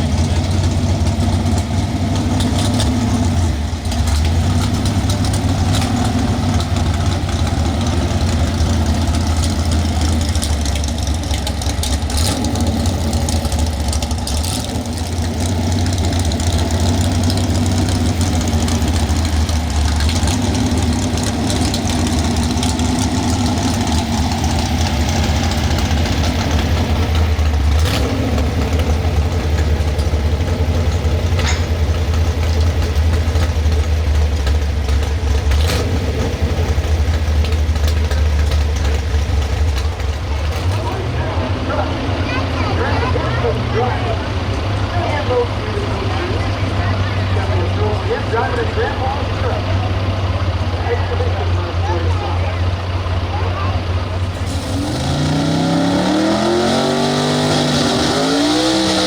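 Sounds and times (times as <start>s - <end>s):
large engine idling: 0.0s - 59.0s.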